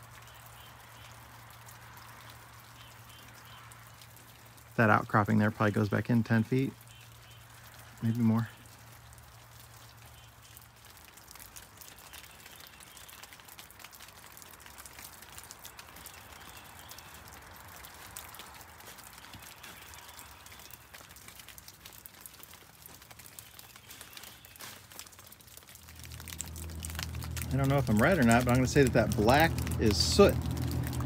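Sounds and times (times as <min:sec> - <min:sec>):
rainwater dripping: 0:00.0 - 0:31.0.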